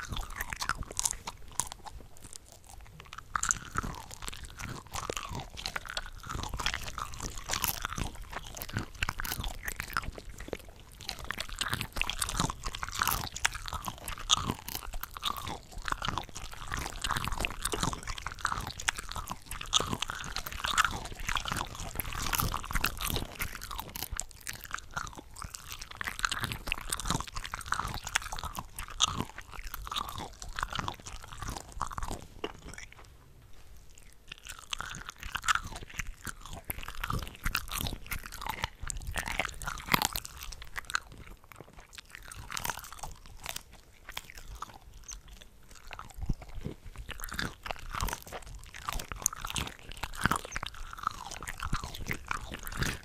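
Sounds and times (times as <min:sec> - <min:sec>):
crunchy chewing: 0:00.0 - 0:53.0.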